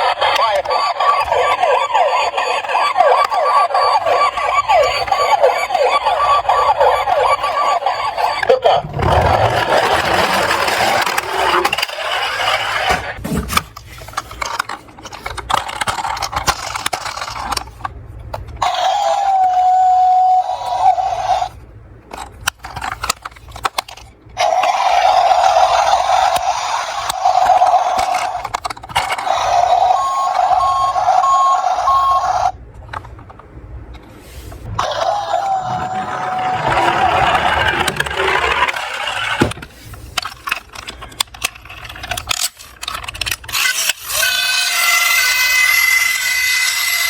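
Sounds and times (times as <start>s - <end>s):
toy cars rolling with whine: 0.0s - 47.0s.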